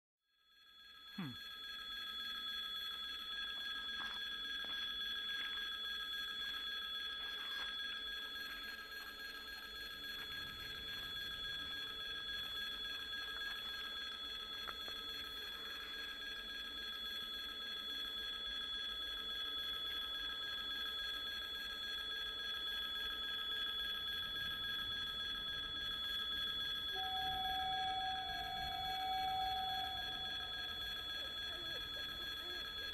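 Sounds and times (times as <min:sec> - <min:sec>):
steady high ringing tones: 0:00.2 - 0:32.9.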